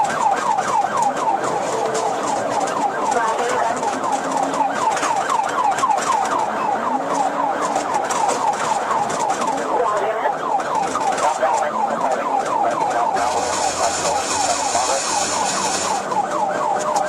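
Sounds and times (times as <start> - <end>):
police siren yelping: 0.0 - 17.0.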